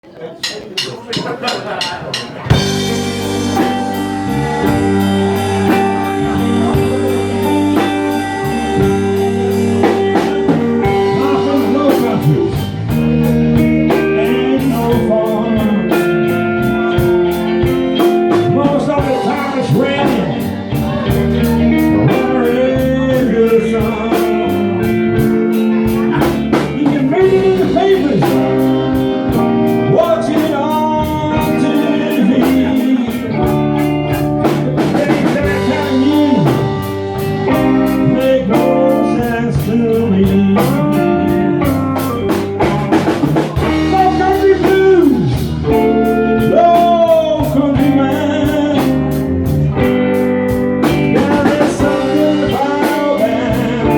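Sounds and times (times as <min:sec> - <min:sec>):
drum kit beat: 0:00.0 - 0:53.9
bass guitar: 0:00.5 - 0:53.9
electric guitar bending notes: 0:01.7 - 0:53.9.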